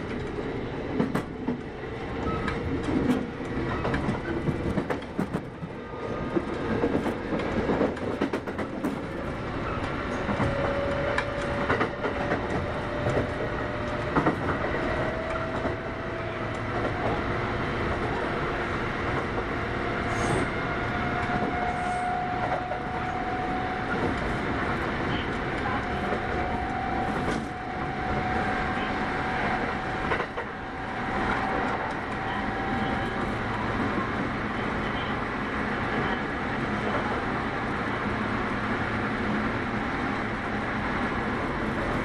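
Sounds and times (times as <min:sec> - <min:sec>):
rail joint clicks: 0:00.0 - 0:37.8
wheel and rail rumble: 0:00.0 - 0:42.0.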